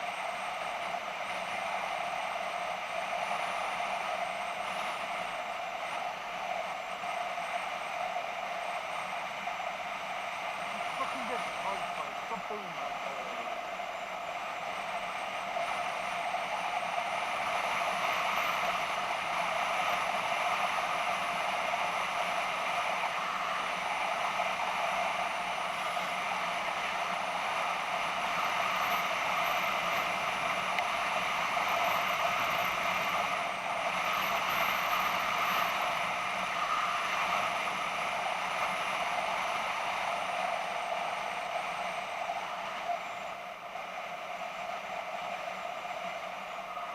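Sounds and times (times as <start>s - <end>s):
high wavering whine: 0.0s - 46.9s
wind and road noise: 0.0s - 46.9s.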